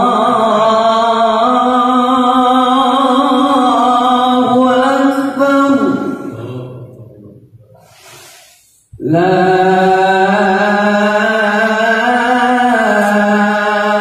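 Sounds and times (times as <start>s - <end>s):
man singing call to prayer: 0.0s - 8.0s, 8.9s - 14.0s.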